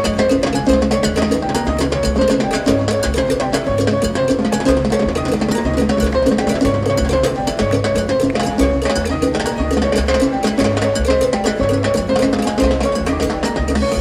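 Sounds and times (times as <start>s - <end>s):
conga drumming: 0.0s - 14.0s
live salsa band: 0.0s - 14.0s.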